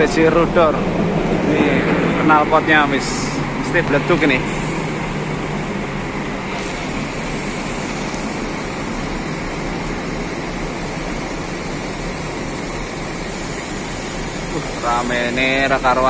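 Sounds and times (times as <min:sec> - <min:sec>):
coach engine running: 0:00.0 - 0:16.0.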